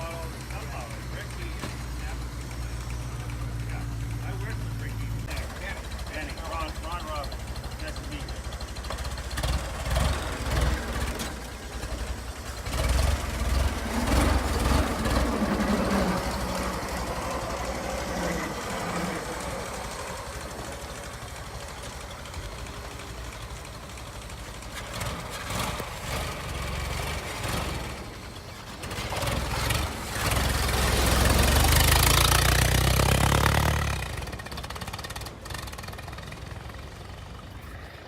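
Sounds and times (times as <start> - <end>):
old car engine running: 0.0 - 38.0.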